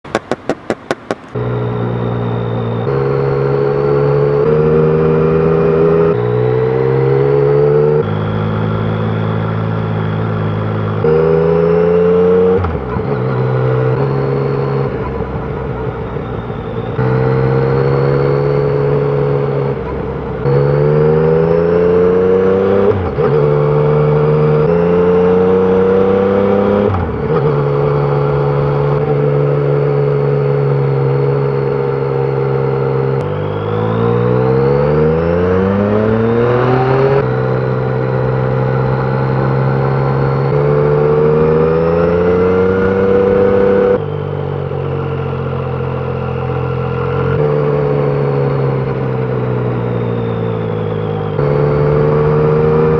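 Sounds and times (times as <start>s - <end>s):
motorcycle engine accelerating through gears: 0.0s - 52.9s.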